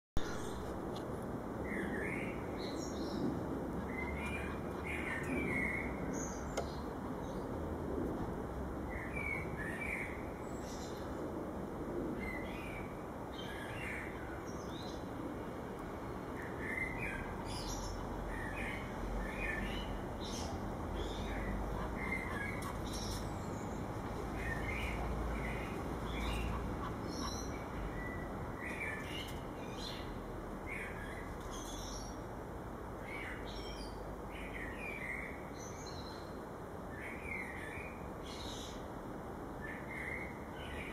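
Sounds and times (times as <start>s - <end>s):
steady background hum: 0.2s - 40.9s.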